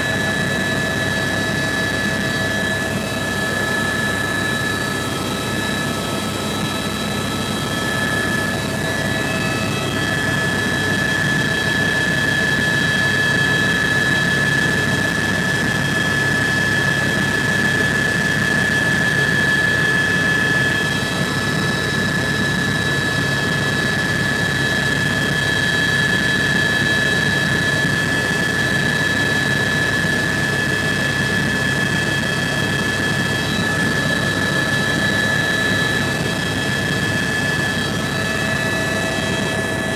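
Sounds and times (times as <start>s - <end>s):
turbine engine whine: 0.0s - 39.9s.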